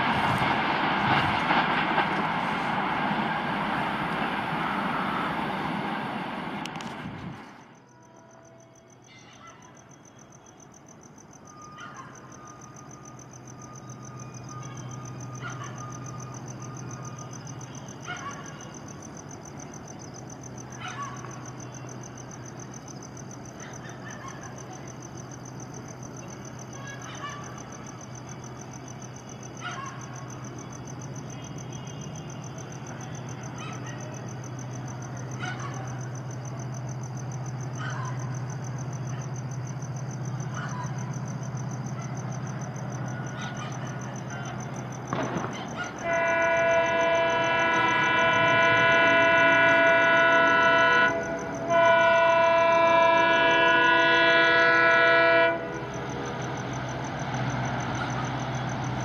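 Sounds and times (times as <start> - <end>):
crickets trilling: 0.0 - 59.0
diesel locomotive engine drone: 0.0 - 59.0.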